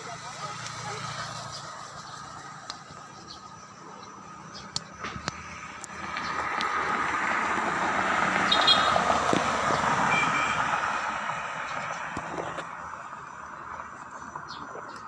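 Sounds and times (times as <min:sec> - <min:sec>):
vehicle rumbling past: 0:00.0 - 0:14.8.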